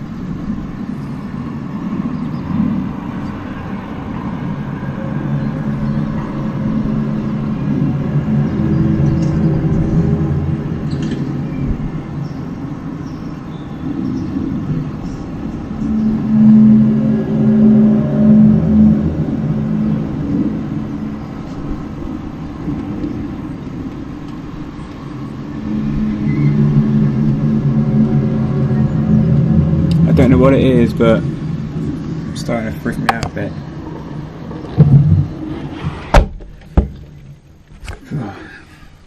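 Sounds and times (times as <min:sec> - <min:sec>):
low droning hum: 0:00.0 - 0:39.0.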